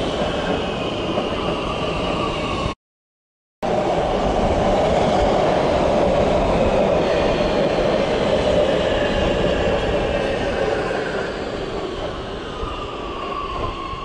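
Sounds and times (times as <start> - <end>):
metro train passing: 0.0 - 2.8, 3.7 - 14.0.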